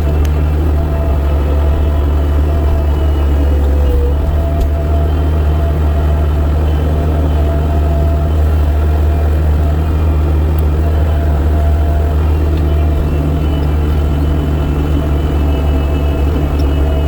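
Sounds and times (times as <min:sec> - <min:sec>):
heavy engine humming: 0:00.0 - 0:17.0.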